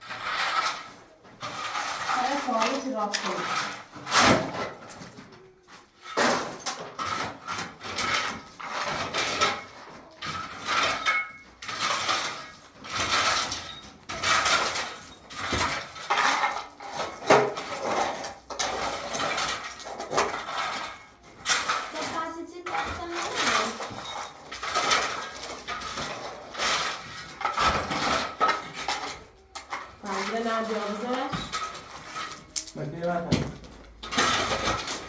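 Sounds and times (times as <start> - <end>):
objects clattering and scraping: 0.0 - 35.0.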